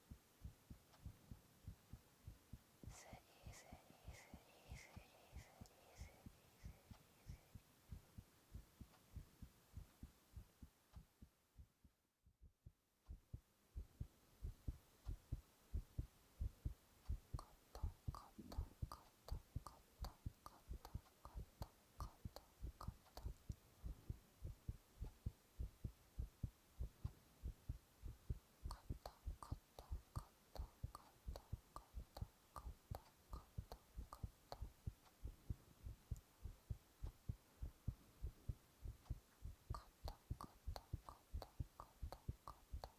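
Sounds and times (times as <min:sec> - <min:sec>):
heartbeat thumps: 0:00.0 - 0:04.8, 0:06.0 - 0:42.9.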